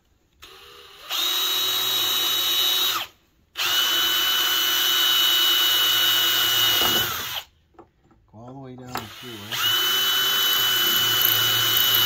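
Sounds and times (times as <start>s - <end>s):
cordless drill whining: 0.4s - 7.5s, 8.9s - 12.0s.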